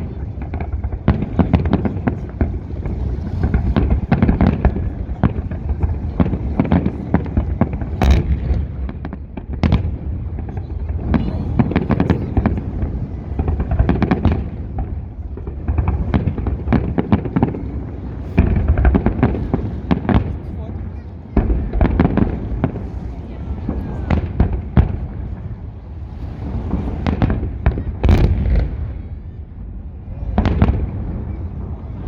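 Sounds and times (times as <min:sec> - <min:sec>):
fireworks booms and cracks: 0:00.0 - 0:32.0.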